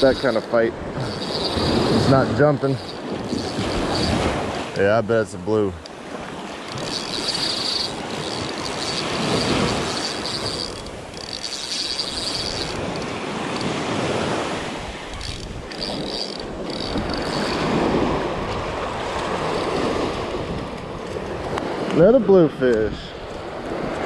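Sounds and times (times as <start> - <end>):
fishing reel whirring: 0.0 - 4.9, 5.8 - 21.6
surf washing in and out: 0.0 - 24.0.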